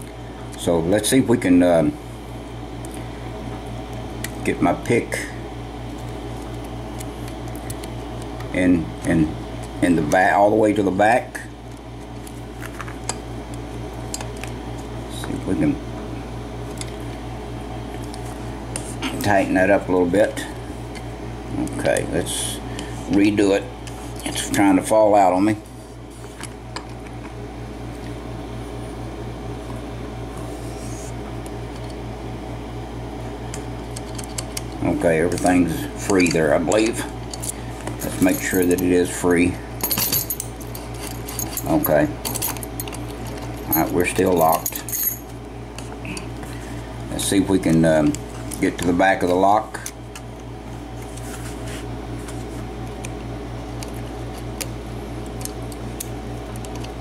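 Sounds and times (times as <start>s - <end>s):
low motor hum pulsing: 0.0s - 57.0s.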